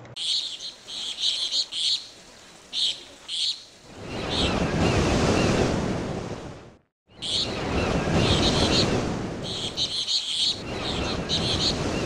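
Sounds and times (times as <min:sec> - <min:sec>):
bird-like chirps: 0:00.2 - 0:05.5, 0:07.1 - 0:12.0.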